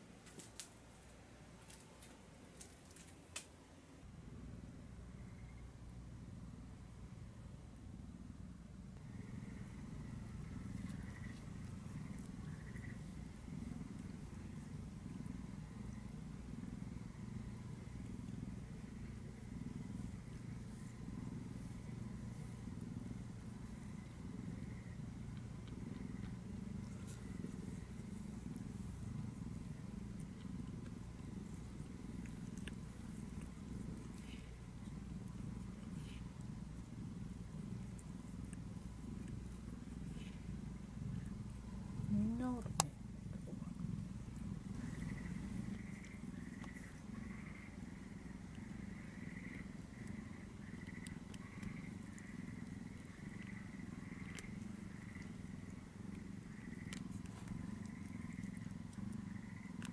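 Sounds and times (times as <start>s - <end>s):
cats purring: 0.0s - 59.9s
faint ticks: 8.9s - 59.9s.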